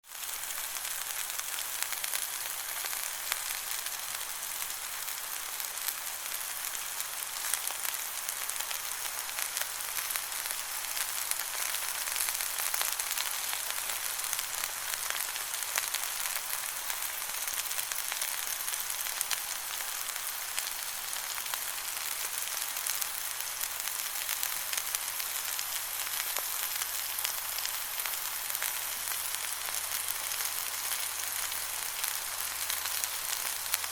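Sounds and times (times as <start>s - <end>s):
food sizzling in hot fat: 0.0s - 33.9s.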